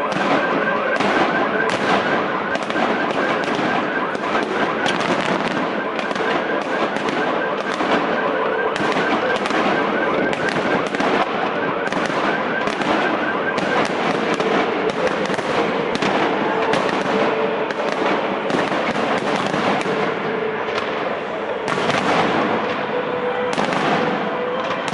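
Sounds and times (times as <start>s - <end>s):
fireworks bangs and crackling: 0.0s - 24.9s.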